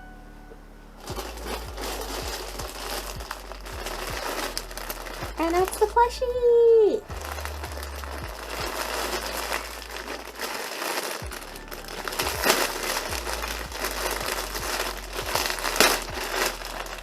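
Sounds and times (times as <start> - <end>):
packaging crinkling and rustling: 1.0 - 6.3, 7.0 - 17.0.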